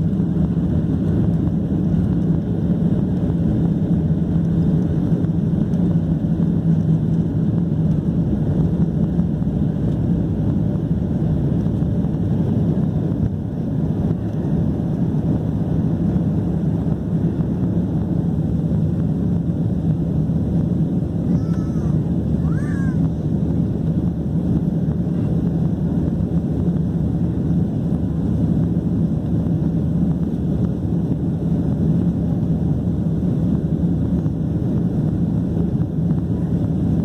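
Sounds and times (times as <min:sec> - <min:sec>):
jet engine cabin hum: 0:00.0 - 0:37.0.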